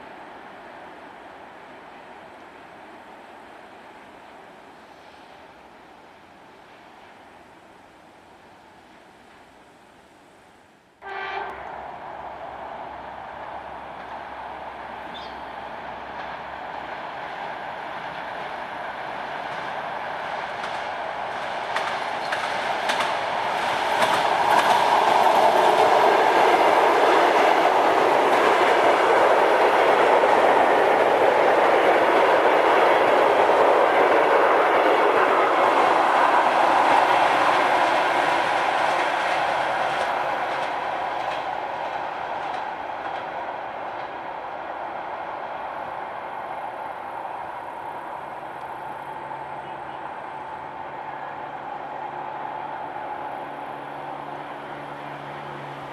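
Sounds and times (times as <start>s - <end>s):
train passing: 0.0s - 55.9s.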